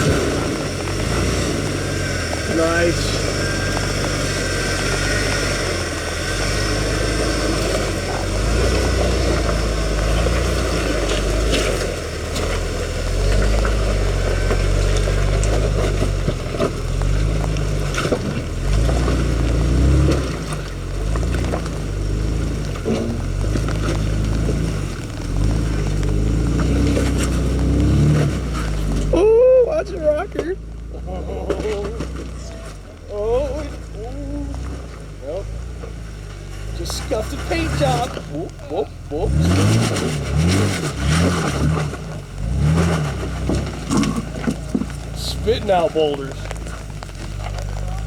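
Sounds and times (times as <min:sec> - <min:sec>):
engine revving over rocks: 0:00.0 - 0:48.0.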